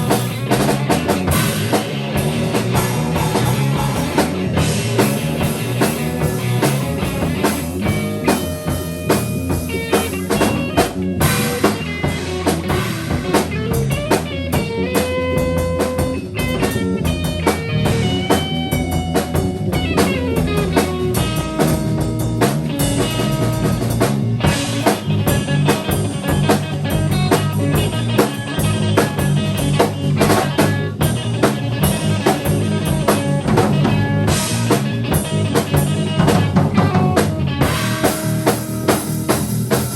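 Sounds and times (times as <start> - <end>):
drum kit beat: 0.0 - 39.9
guitar: 0.0 - 39.9
live band playing: 0.0 - 39.9.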